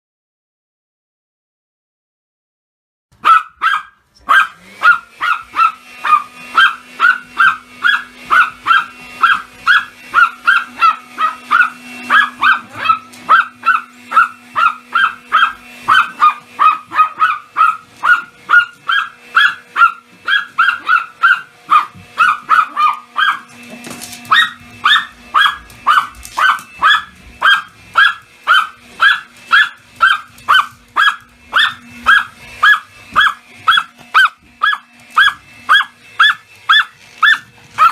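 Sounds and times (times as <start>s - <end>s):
small dog barking: 3.2s - 37.9s
vacuum cleaner humming: 4.1s - 37.9s.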